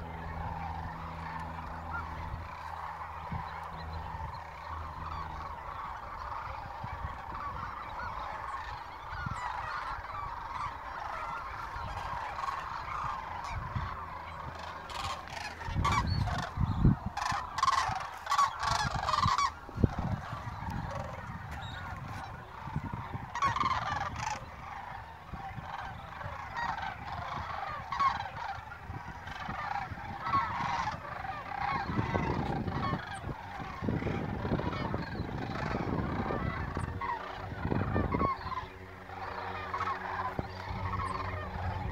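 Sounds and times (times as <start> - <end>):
low rumble on microphone: 0.0 - 41.9
waterbirds honking: 0.0 - 41.9.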